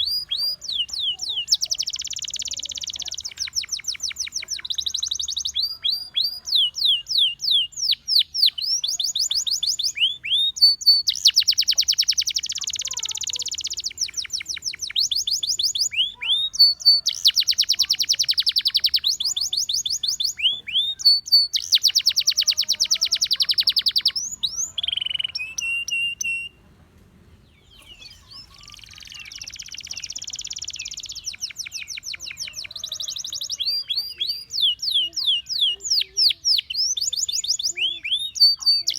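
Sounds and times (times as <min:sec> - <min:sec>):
canary singing: 0:00.0 - 0:26.6, 0:27.5 - 0:38.9.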